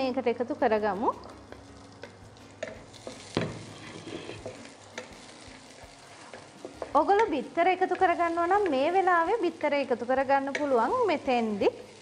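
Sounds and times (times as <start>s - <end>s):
garlic sizzling in a frying pan: 0.0s - 12.0s.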